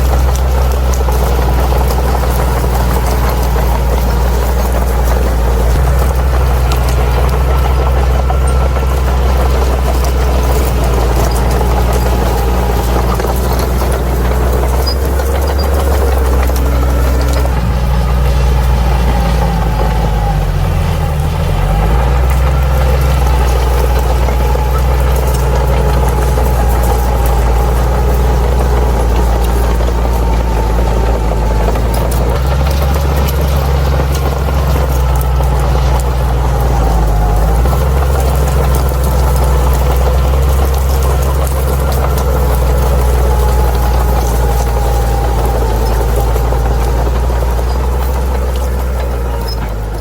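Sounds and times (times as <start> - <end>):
bulldozer diesel engine droning: 0.0 - 50.0.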